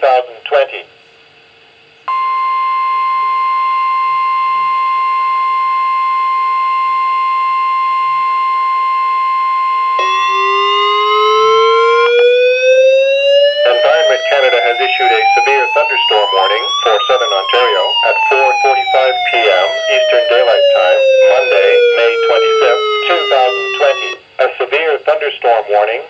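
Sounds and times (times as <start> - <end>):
alarm rising in pitch: 2.1 - 24.2
weather radio alert tone: 2.1 - 25.3.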